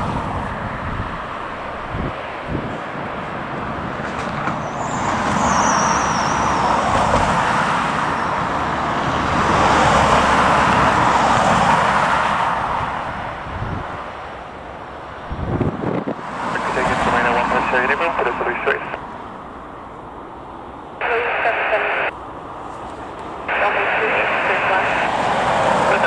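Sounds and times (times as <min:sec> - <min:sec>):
jet airliner engines rushing: 0:00.0 - 0:14.0, 0:15.4 - 0:26.0.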